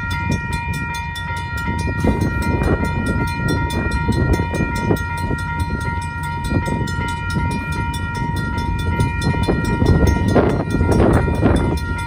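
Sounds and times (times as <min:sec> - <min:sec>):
railroad crossing bell ringing: 0:00.0 - 0:12.0
train wheels rumbling and clanking: 0:00.0 - 0:12.0.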